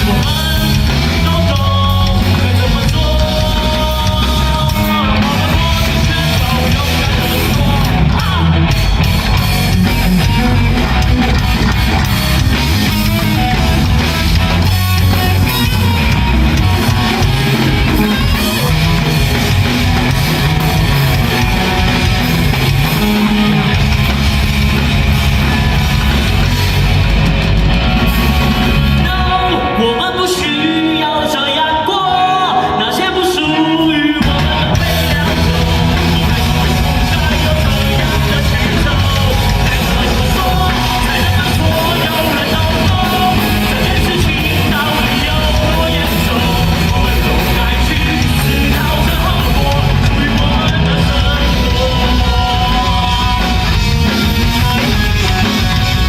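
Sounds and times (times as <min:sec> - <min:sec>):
live rock band with singer: 0:00.0 - 0:56.0.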